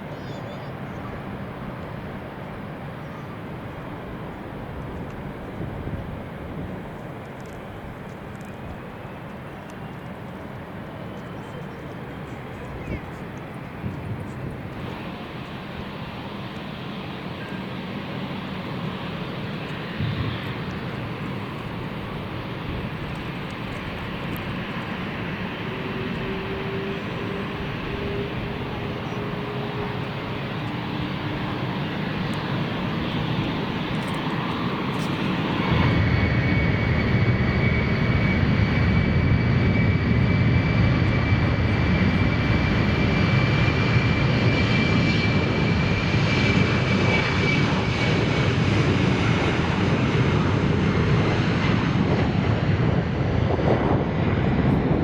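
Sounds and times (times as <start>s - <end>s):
airliner engines roaring: 0.0s - 55.0s.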